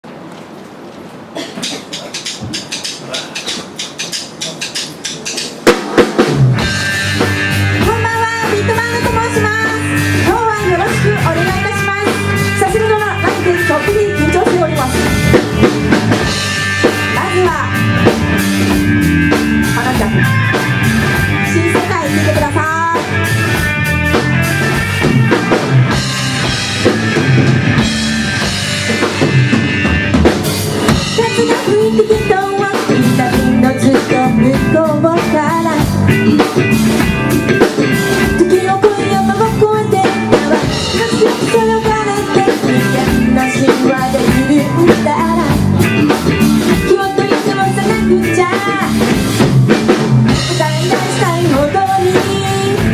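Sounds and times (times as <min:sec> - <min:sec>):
live band playing: 0:01.2 - 0:52.9
drum kit beat: 0:01.3 - 0:52.9.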